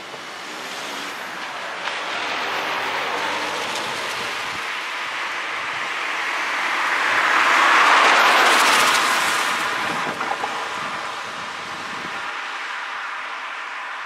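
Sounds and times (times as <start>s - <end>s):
car tyre noise passing: 0.0s - 14.0s.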